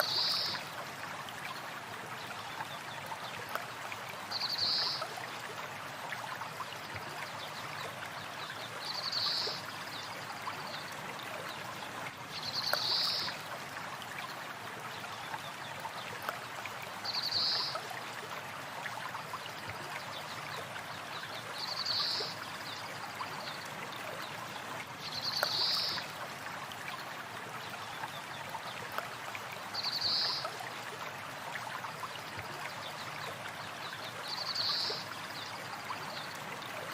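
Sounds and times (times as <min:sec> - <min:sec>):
stream flowing: 0:00.0 - 0:36.9.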